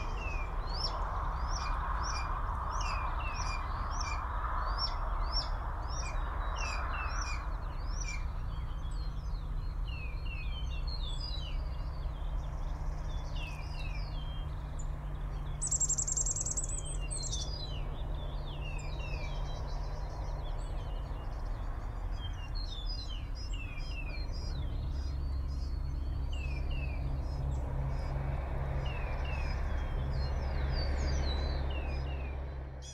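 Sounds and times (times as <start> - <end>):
songbirds chirping: 0.0 - 32.9.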